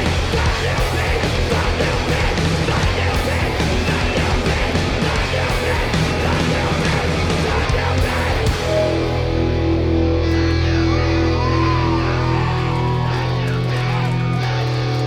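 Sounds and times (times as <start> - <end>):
distorted electric guitars: 0.0 - 15.0
drums: 0.0 - 15.0
punk band playing: 0.0 - 15.0.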